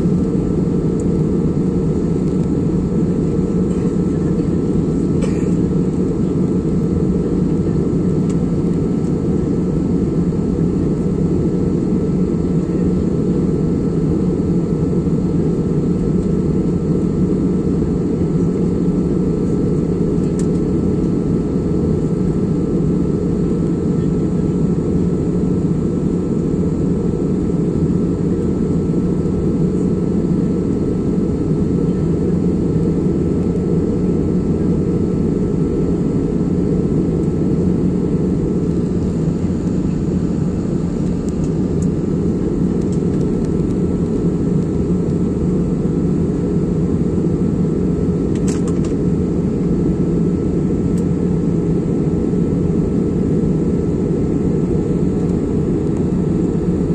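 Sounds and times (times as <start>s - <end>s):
airliner engine and air drone: 0.0s - 56.9s.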